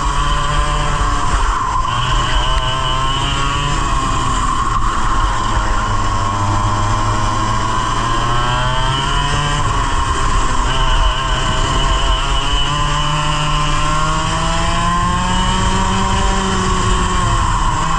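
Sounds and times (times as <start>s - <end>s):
racing kart engine revving: 0.0s - 17.9s.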